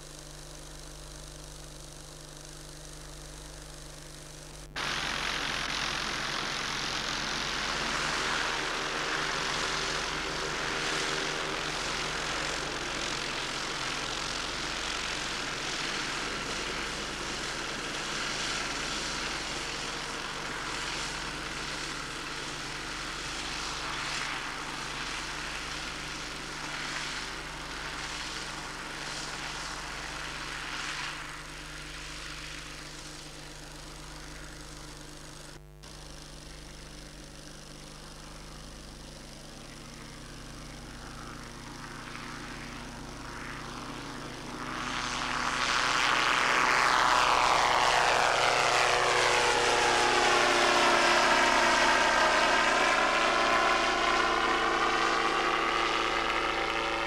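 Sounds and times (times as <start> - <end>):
ultralight aircraft engine running: 0.0 - 57.0.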